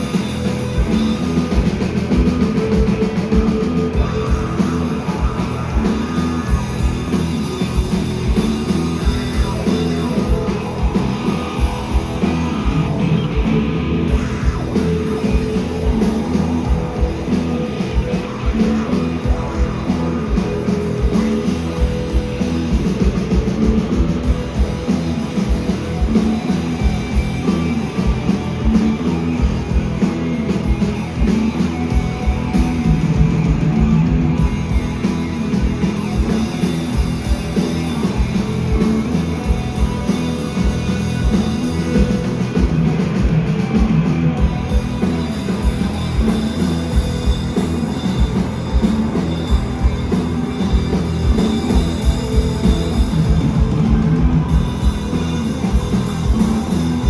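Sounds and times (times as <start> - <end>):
heavy bass guitars: 0.0 - 57.0
live rock band playing: 0.0 - 57.0
steady drum beat: 0.0 - 57.0.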